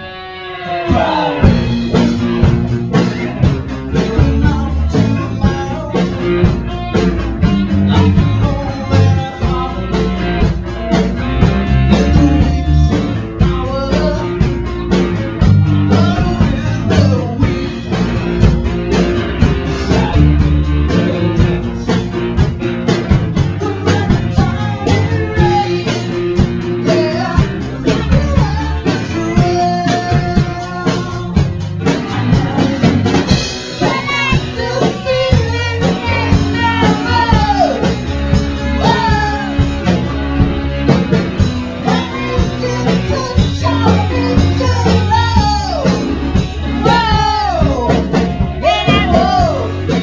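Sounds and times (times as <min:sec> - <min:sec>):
person singing: 0:00.0 - 0:22.4, 0:23.2 - 0:40.3, 0:41.4 - 0:50.0
band music: 0:00.0 - 0:50.0.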